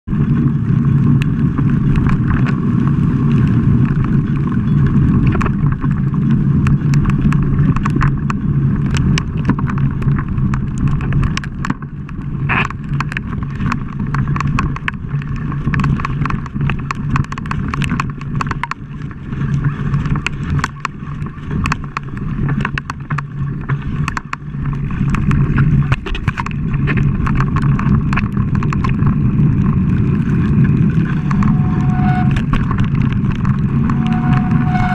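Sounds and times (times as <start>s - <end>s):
bike clicks and rattles: 0.1s - 34.9s
tyres rolling over dirt: 0.1s - 34.9s.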